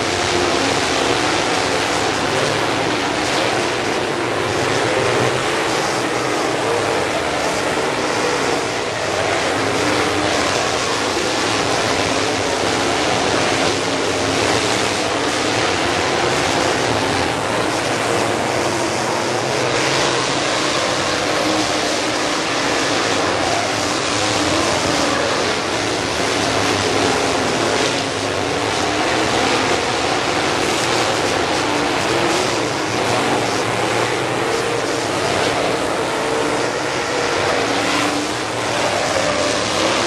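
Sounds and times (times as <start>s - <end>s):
race car engines: 0.0s - 40.0s.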